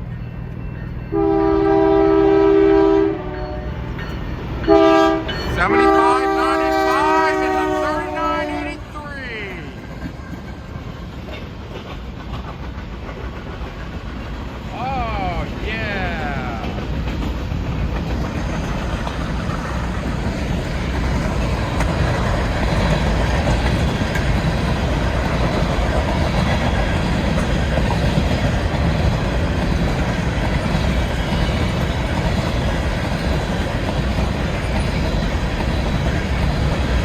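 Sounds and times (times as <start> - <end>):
steel wheels on rails: 3.2 - 37.0.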